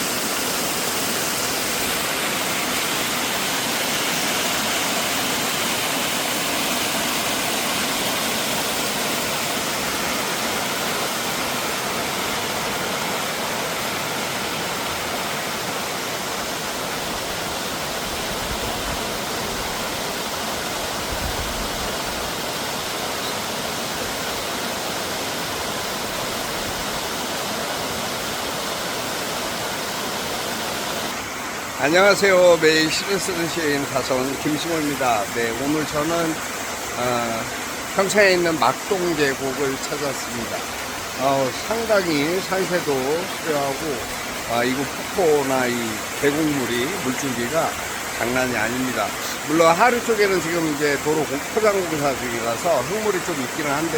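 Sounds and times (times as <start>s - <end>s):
stream and waterfall rushing: 0.0s - 53.9s.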